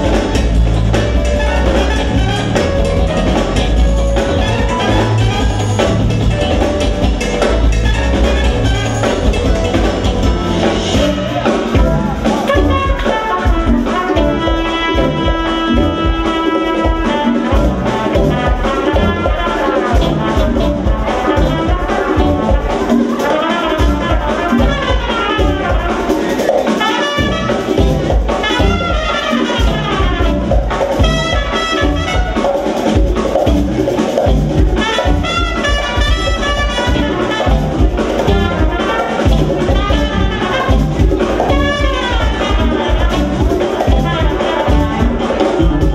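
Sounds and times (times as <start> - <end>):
trumpet: 0.0 - 33.8, 34.6 - 45.9
jazz-fusion band playing: 0.0 - 45.9.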